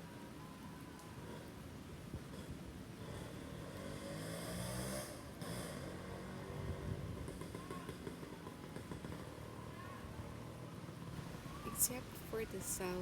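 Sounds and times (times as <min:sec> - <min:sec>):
wind in trees: 0:00.0 - 0:13.0.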